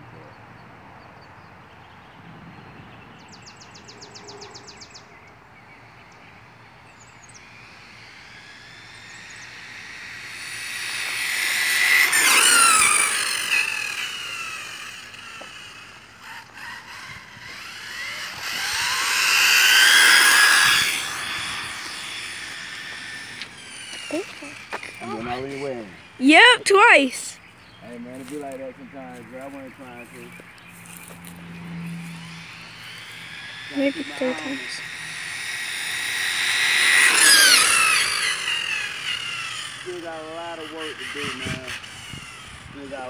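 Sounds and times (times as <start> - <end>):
rc car motor and gear whine: 3.2 - 43.0.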